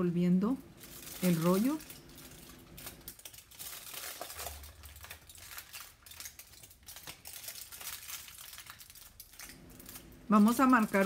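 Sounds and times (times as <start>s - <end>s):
aluminium foil crinkling: 0.5s - 11.0s.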